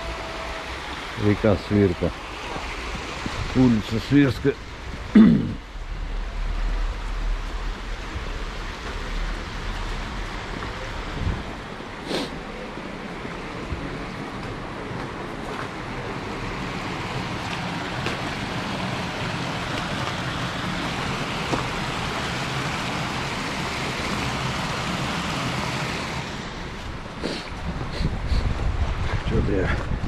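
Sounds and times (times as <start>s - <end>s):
river water rushing over weir: 0.0s - 27.8s.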